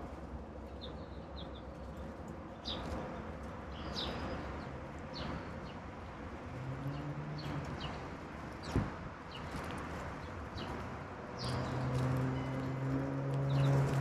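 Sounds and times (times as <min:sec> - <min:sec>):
songbirds chirping: 0:00.5 - 0:14.0.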